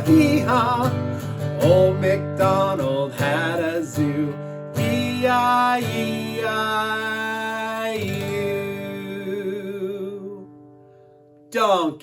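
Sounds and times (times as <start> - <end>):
person singing: 0.0 - 10.5
guitar chords strummed: 0.0 - 11.5.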